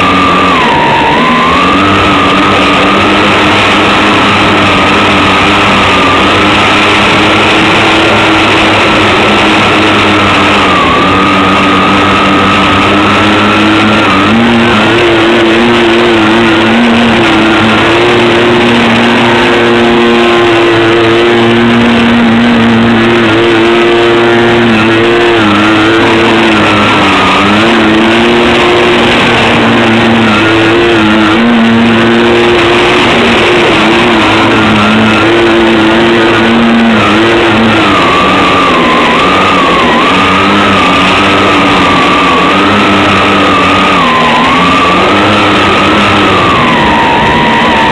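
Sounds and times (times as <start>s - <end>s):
electric motors whining: 0.0s - 47.9s.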